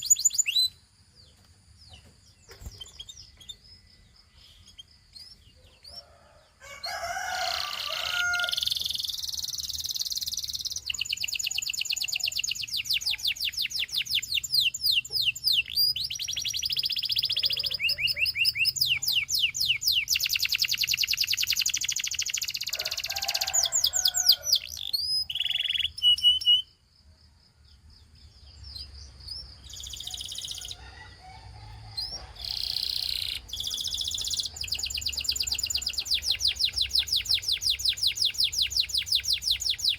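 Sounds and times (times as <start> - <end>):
canary singing trills: 0.0 - 26.8, 27.8 - 39.9.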